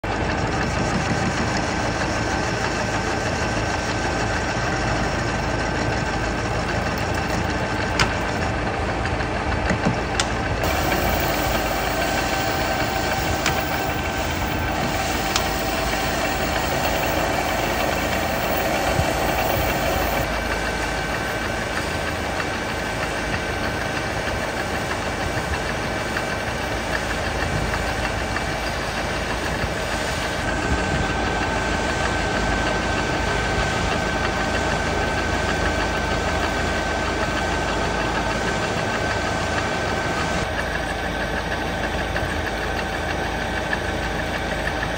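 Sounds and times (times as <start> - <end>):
machine tool motor hum and whine: 0.2 - 44.6.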